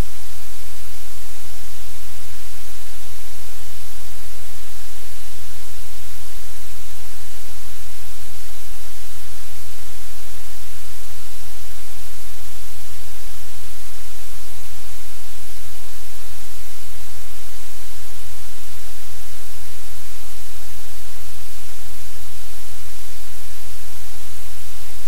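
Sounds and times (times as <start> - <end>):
static hiss: 0.0 - 25.0.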